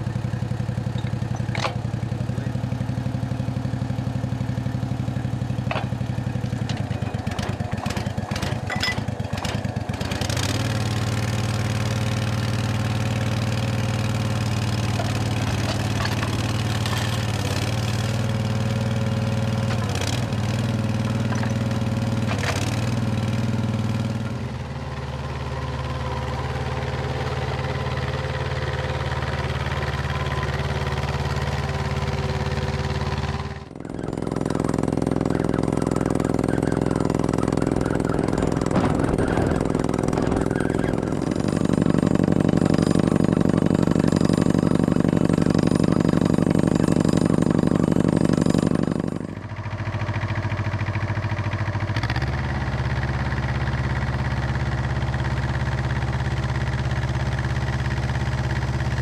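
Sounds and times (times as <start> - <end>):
drilling rig engine running: 0.0 - 59.0.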